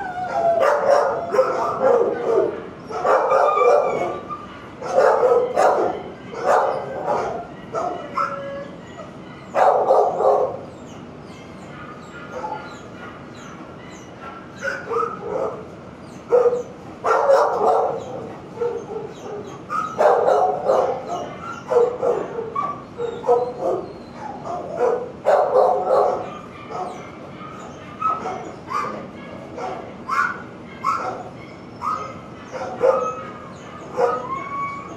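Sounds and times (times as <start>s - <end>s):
dogs barking: 0.0s - 34.9s.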